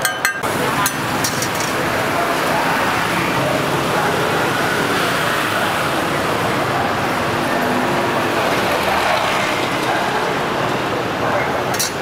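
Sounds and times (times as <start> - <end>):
cars passing: 0.0 - 12.0
motorbikes passing: 0.0 - 12.0.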